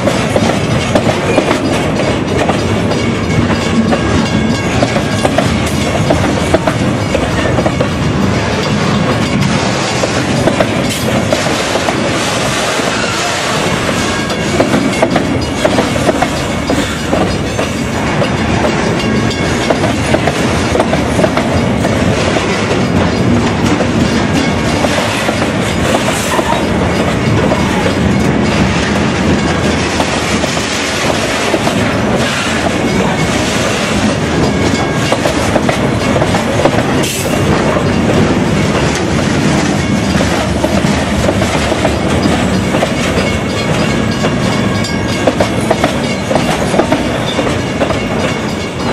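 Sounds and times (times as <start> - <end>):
freight train wheels knocking on rails: 0.0 - 48.9.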